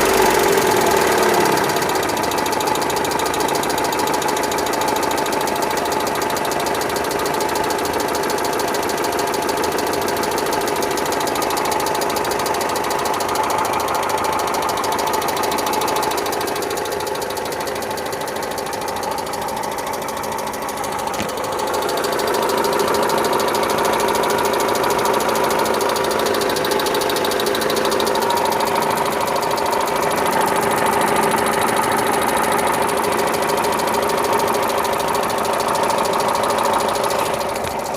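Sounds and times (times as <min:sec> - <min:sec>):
car engine idling with knock: 0:00.0 - 0:37.9.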